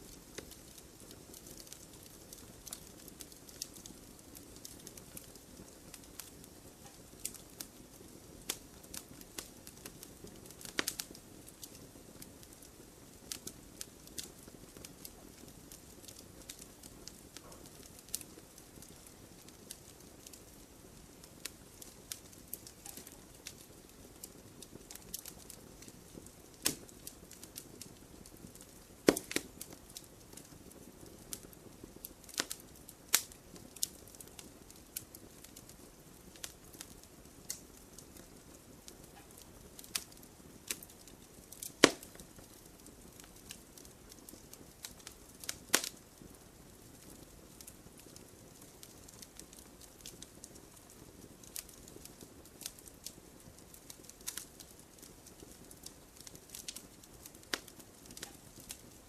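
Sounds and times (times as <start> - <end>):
campfire crackling and popping: 0.0 - 59.0
faint steady hiss: 0.0 - 59.0.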